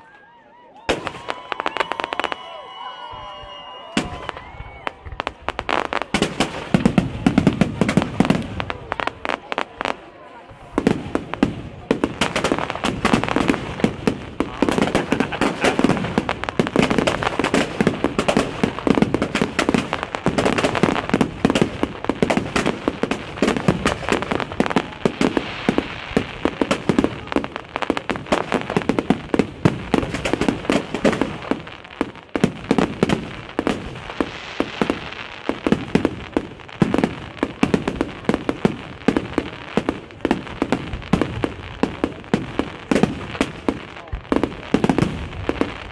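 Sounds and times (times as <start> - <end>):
fireworks bangs and crackles: 0.8 - 45.9.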